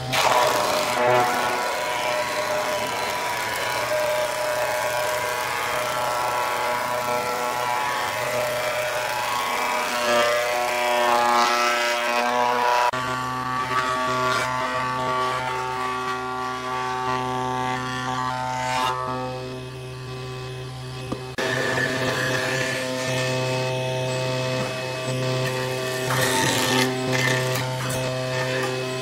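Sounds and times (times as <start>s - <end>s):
planer planing wooden board: 0.0s - 29.0s.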